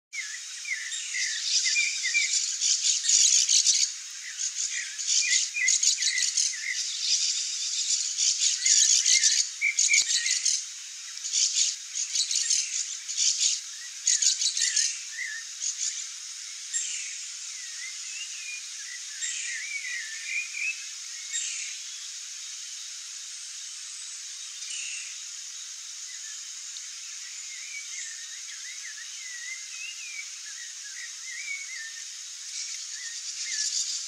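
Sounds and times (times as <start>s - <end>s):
small birds chirping: 0.1s - 34.0s.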